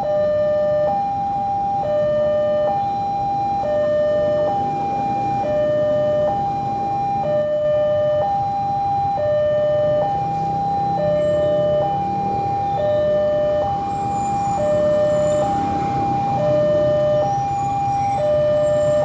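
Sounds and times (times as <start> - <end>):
two-tone level crossing alarm: 0.0 - 19.0.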